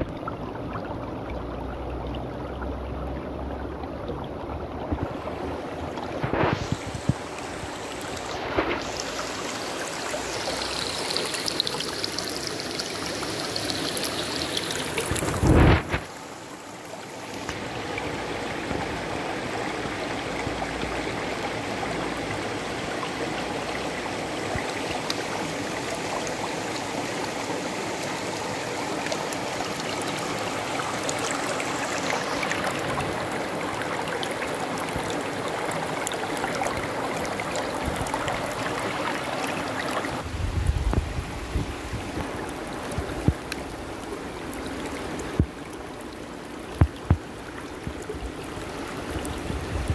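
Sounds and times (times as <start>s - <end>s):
stream running over stones: 0.0s - 49.9s.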